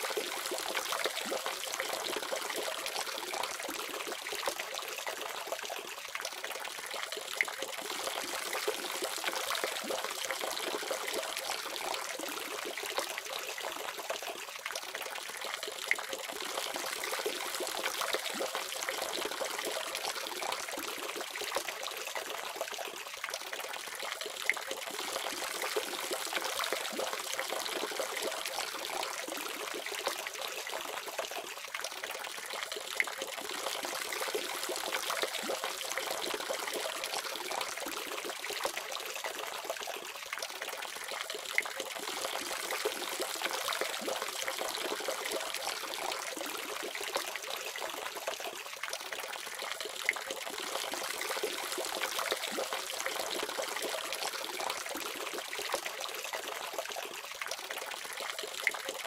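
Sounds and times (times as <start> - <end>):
small water drips: 0.0 - 59.0.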